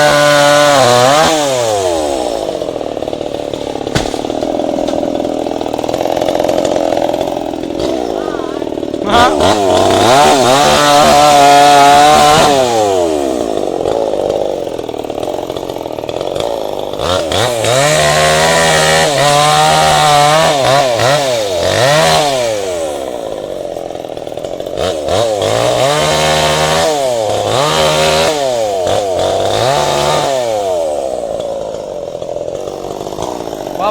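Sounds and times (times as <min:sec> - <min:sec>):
chainsaw revving: 0:00.0 - 0:33.9.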